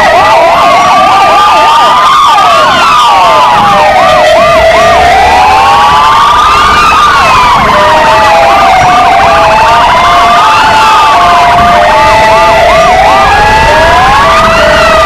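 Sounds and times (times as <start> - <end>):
siren yelps: 0.0 - 15.0
sirens wailing: 0.0 - 15.0
two-note hi-lo siren: 0.0 - 15.0.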